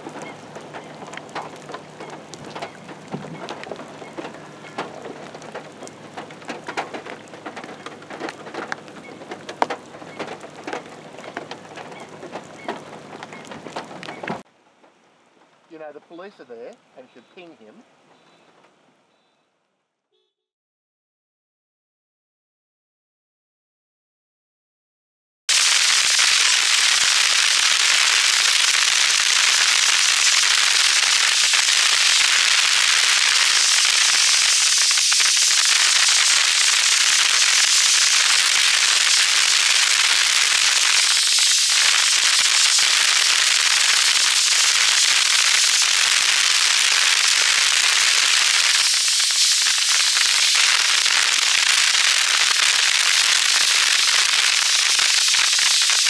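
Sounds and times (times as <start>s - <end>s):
rain on car roof: 0.0s - 15.8s, 25.5s - 56.0s.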